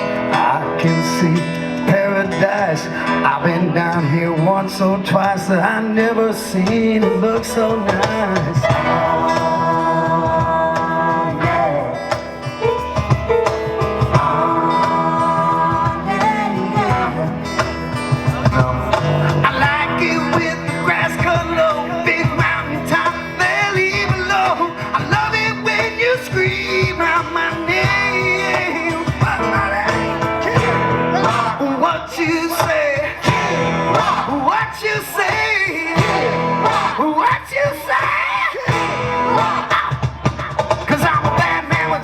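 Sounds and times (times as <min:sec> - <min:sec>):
electric guitar: 0:00.0 - 0:42.0
live rock band over loud pa: 0:00.0 - 0:42.0
steady drum beat: 0:06.4 - 0:42.0.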